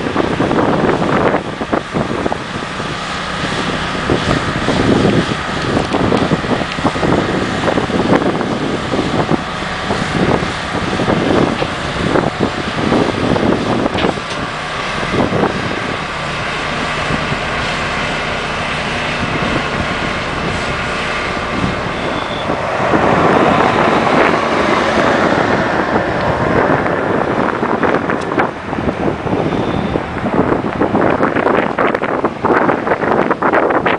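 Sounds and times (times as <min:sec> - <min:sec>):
heavy vehicle engine running: 0:00.0 - 0:33.9
wind buffeting microphone: 0:00.0 - 0:33.9.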